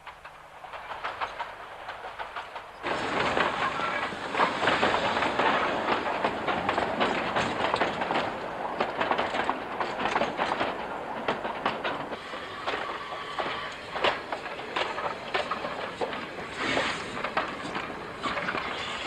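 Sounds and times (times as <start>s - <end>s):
steam train wheels clicking on rails: 0.0s - 19.0s.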